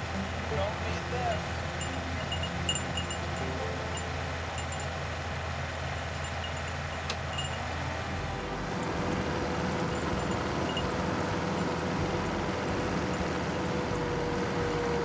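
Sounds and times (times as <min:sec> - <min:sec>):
skid steer engine running: 0:00.0 - 0:15.0.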